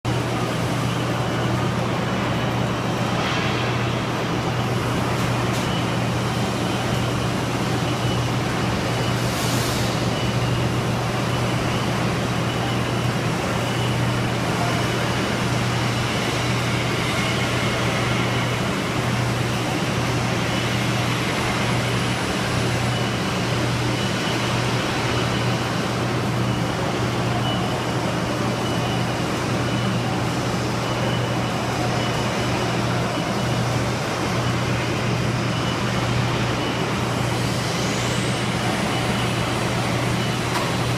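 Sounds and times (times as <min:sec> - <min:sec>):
welding machine humming and hissing: 0:00.1 - 0:40.9.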